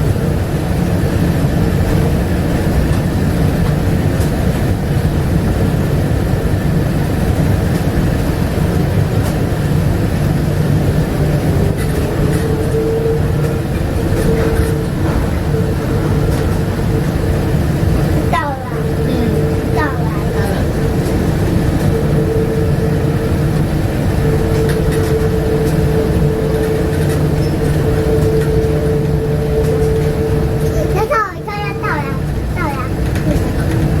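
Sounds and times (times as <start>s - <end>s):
train car running rumble: 0.0s - 34.0s.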